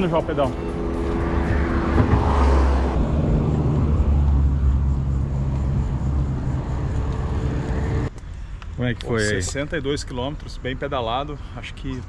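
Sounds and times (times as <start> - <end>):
motor traffic: 0.0 - 12.0.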